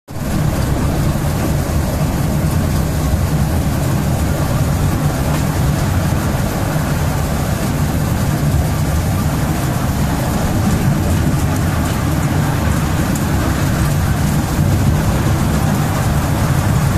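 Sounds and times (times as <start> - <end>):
miniature train rumbling on track: 0.1 - 16.9.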